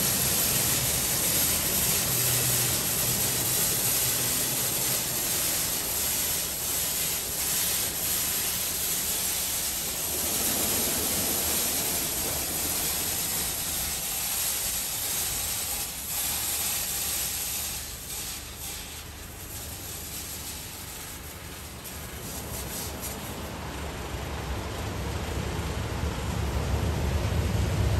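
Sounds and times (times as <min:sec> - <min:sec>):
car wash spraying water: 0:00.0 - 0:27.9.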